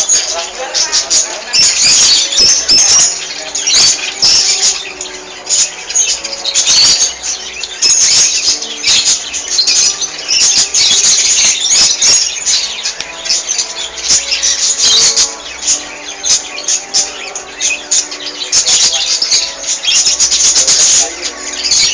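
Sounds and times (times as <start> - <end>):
cage birds chirping: 0.0 - 21.9.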